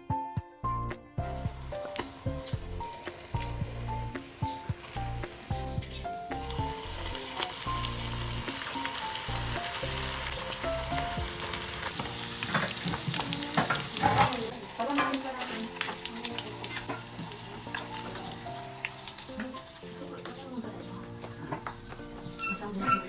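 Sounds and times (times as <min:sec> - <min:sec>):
food deep-frying in oil: 0:01.2 - 0:23.0.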